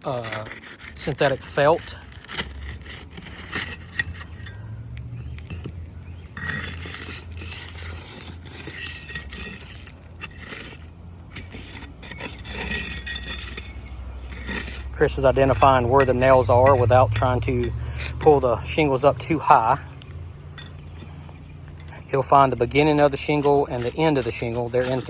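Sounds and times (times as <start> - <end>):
asphalt shingles scraping: 0.0 - 25.0.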